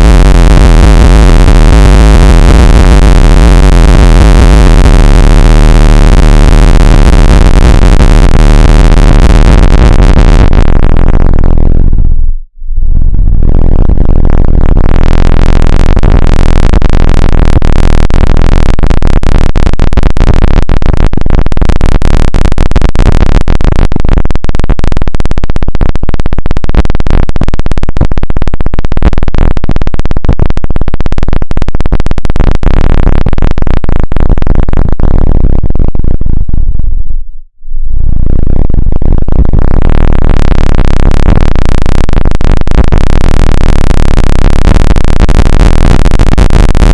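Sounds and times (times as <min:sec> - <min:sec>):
harsh electronic buzzing drone: 0:00.0 - 0:25.1, 0:25.8 - 0:46.9.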